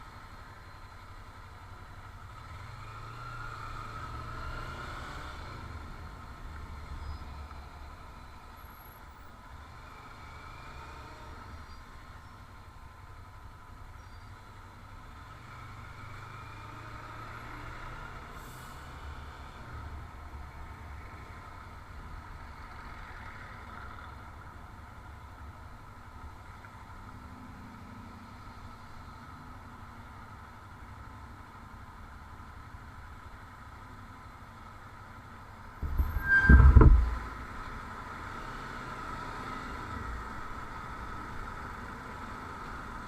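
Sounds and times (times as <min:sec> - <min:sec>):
vehicle engine and road rumble: 0:00.0 - 0:43.0.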